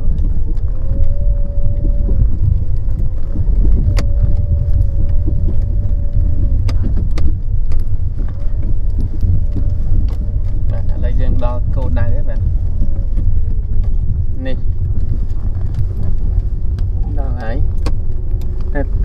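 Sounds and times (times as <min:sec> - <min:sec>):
engine hum: 0:00.0 - 0:19.0
vehicle low rumble: 0:00.0 - 0:19.0.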